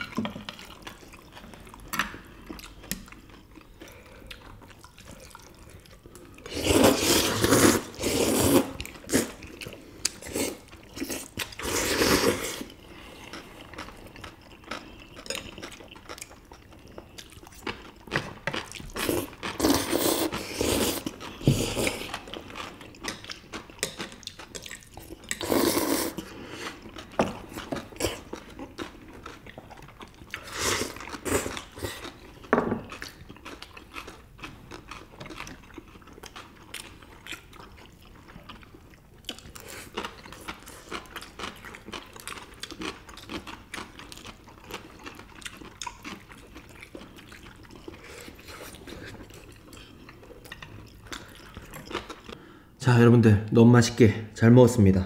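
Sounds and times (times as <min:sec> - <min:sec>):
chewing and wet mouth sounds: 0:00.0 - 0:52.6.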